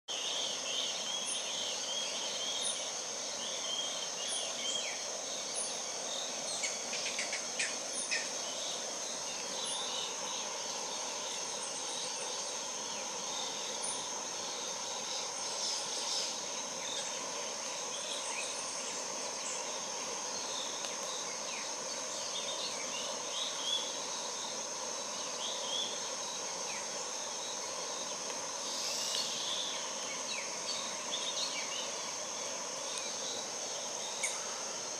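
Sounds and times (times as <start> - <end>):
high-pitched insect drone: 0.1 - 34.9.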